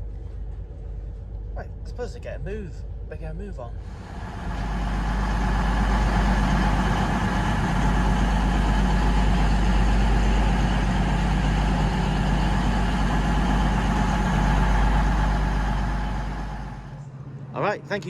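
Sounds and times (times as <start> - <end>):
diesel train engines droning: 0.0 - 18.0.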